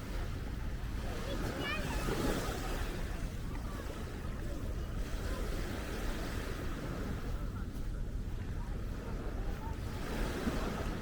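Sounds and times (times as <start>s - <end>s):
small waves on sandy beach: 0.0s - 11.0s
wind rumbling on microphone: 0.0s - 11.0s.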